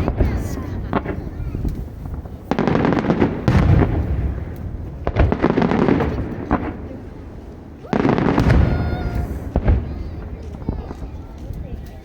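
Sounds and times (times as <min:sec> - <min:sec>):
firework booms: 0:00.0 - 0:11.7
firework crackling: 0:00.0 - 0:12.0.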